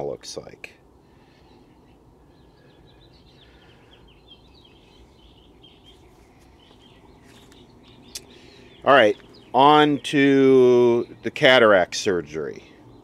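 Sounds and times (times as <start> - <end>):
low steady background noise: 0.0 - 13.0
small birds chirping: 0.0 - 13.0.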